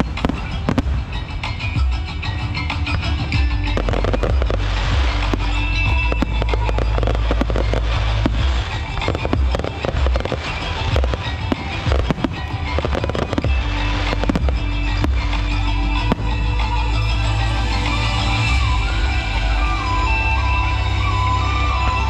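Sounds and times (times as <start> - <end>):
fireworks bangs and crackles: 0.0 - 20.2
music with steady bass: 0.0 - 22.0.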